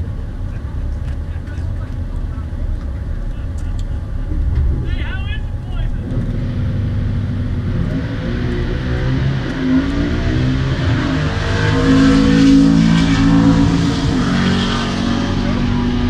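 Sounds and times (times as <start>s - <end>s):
drag car engine accelerating: 0.0s - 16.0s.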